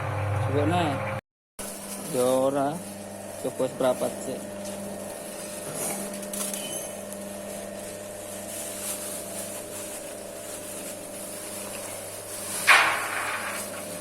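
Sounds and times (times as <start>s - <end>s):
machine motor and drum humming: 0.0s - 14.0s.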